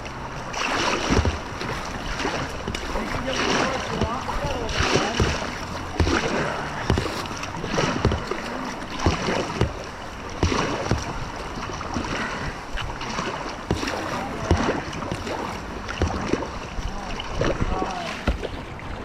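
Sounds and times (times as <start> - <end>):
rushing river water: 0.0 - 19.0
splashes and knocks: 0.0 - 19.0.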